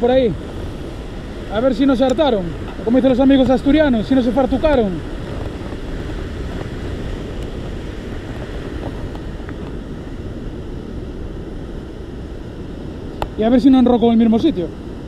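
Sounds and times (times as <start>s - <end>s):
surf washing over rocks: 0.0s - 15.0s
wind on microphone: 0.0s - 15.0s.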